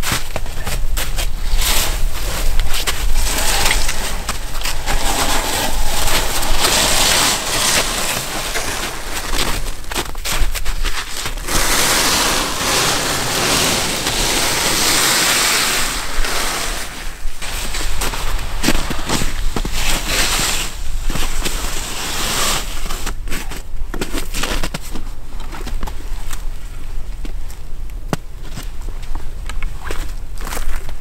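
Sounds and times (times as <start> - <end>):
sled runners scraping over snow: 0.0 - 26.3.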